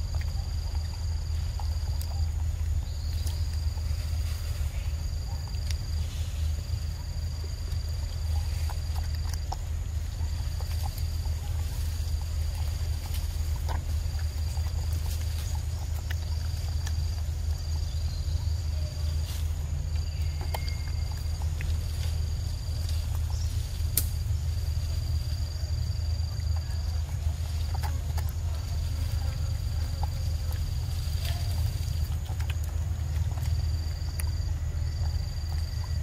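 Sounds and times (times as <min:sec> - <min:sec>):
insects buzzing: 0:00.0 - 0:36.0
low rumble: 0:00.0 - 0:36.0
monkey chewing fruit: 0:00.0 - 0:36.0.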